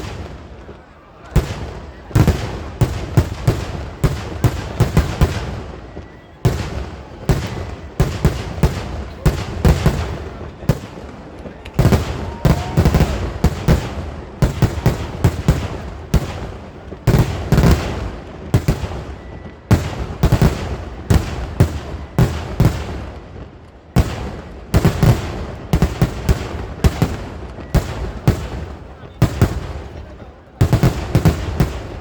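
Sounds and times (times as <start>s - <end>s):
fireworks bangs: 0.0s - 32.0s.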